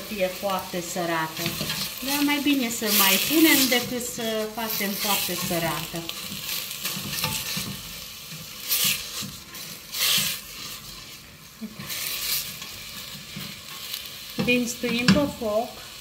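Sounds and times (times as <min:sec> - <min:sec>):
vegetables sizzling in hot oil: 0:00.0 - 0:16.0
spatula stirring and swishing: 0:01.3 - 0:14.6.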